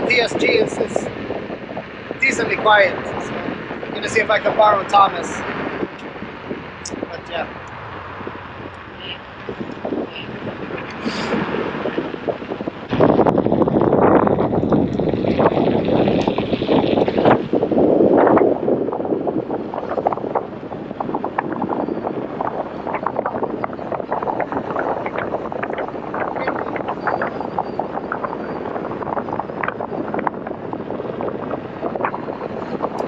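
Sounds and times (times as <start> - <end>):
low buffeting thumps: 0.0 - 33.0
wind rushing around helmet: 0.0 - 33.0.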